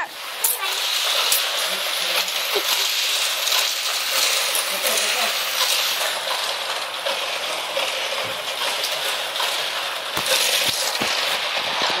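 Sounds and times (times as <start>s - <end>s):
toy cars rattling on plastic track: 0.0s - 12.0s.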